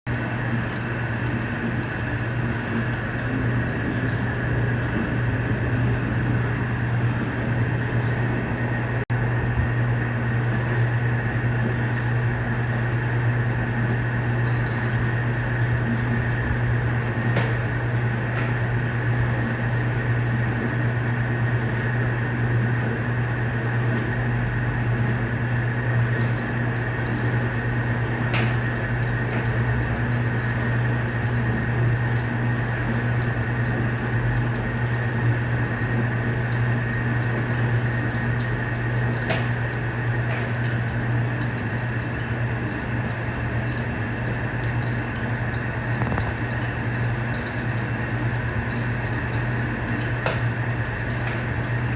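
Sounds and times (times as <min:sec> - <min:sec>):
washing machine humming: 0:00.0 - 0:51.9.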